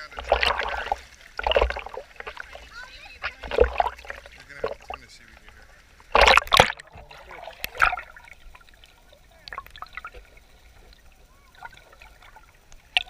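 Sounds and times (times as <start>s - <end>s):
light water splashes: 0.0s - 13.0s
water trickling and dripping: 0.0s - 13.0s.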